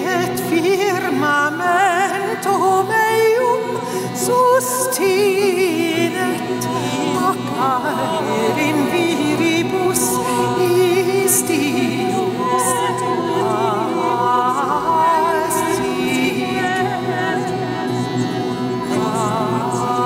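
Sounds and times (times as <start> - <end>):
group singing a cappella: 0.0 - 20.0.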